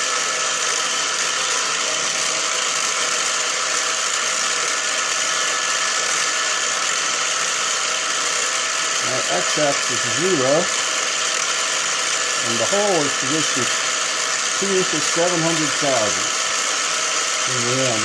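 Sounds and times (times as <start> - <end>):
machine motor whirring: 0.0 - 18.0.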